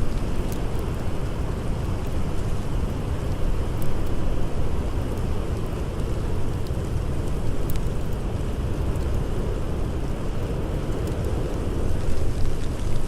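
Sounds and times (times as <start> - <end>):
blizzard wind blowing: 0.0 - 13.0
campfire crackling: 0.0 - 13.0.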